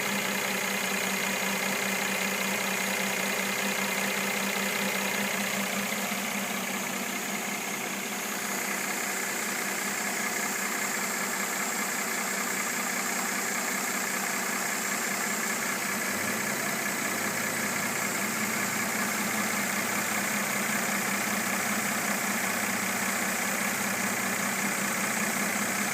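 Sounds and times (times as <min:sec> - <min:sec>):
car engine idling: 0:00.0 - 0:25.9
engine knock: 0:00.0 - 0:25.9.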